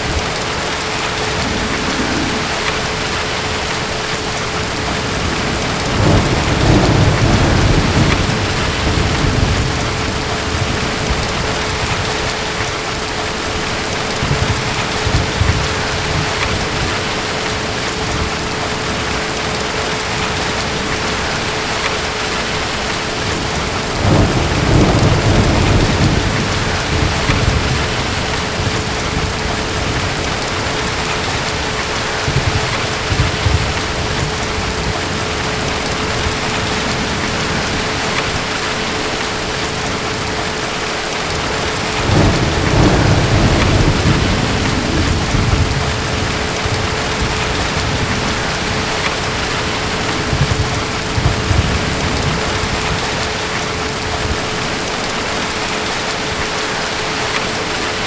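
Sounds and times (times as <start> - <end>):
distant thunder rumbling: 0.0 - 55.0
steady rain falling: 0.0 - 58.0.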